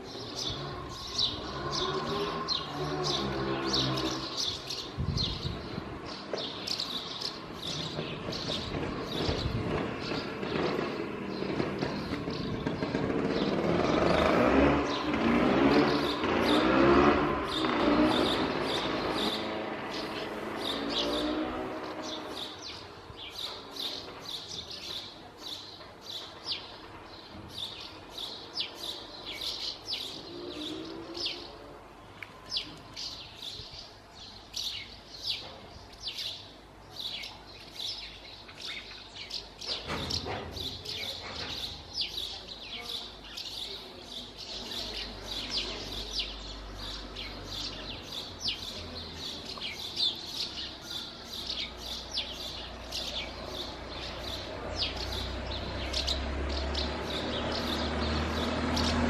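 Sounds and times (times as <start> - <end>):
birds twittering: 0.0 - 59.0.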